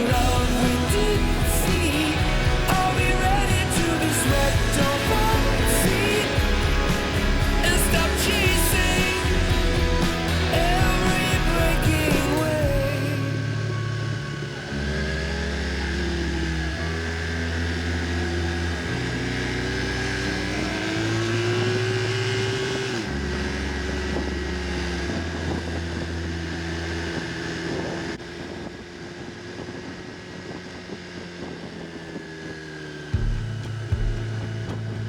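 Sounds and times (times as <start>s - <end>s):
music with deep bass line: 0.0s - 27.3s, 33.1s - 35.0s
car driving hum: 0.0s - 35.0s.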